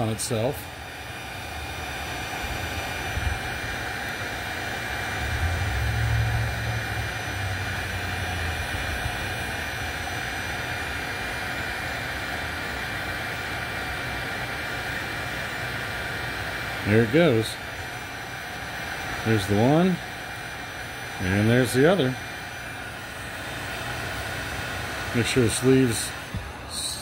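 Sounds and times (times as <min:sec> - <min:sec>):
heat gun blowing air: 0:00.0 - 0:27.0.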